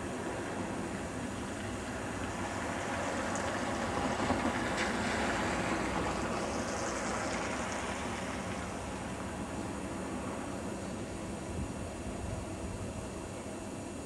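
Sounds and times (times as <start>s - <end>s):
distant trains rumbling: 0.0s - 14.0s.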